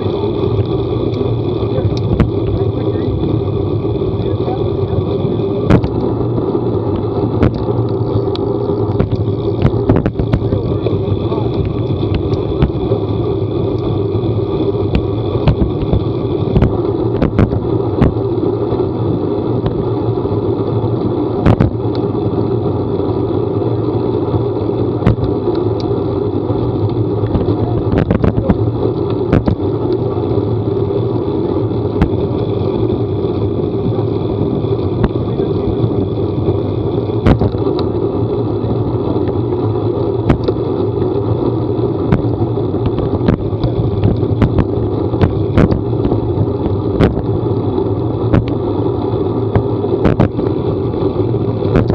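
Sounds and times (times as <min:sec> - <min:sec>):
vehicle engine drone: 0:00.0 - 0:51.9.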